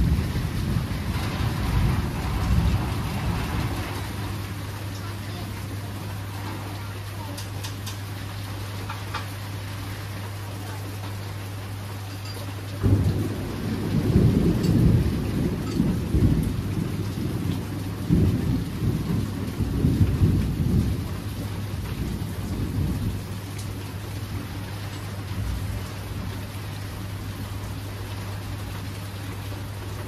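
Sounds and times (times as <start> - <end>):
thunder rumble: 0.0 - 7.0, 12.8 - 30.0
steady rain: 0.0 - 30.0.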